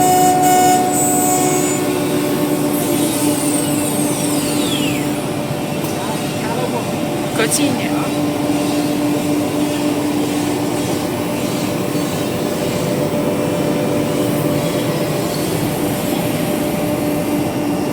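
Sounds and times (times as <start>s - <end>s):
cnc router whining: 0.0s - 17.7s.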